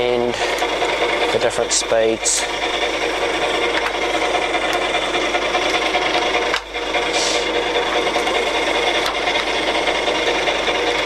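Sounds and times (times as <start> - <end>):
lathe gears whirring: 0.0 - 11.0.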